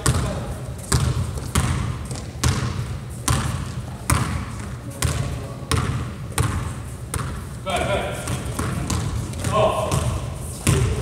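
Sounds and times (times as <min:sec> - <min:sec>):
basketball bouncing on gym floor: 0:00.0 - 0:11.0.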